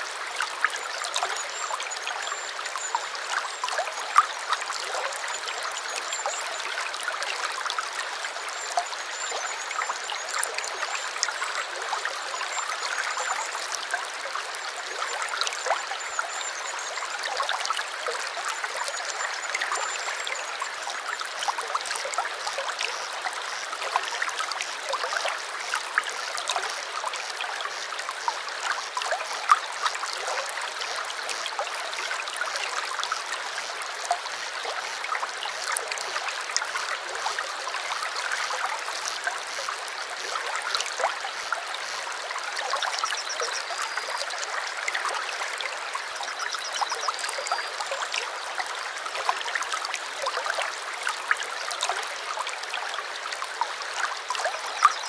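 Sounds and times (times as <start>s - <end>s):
stream babbling over stones: 0.0s - 55.0s.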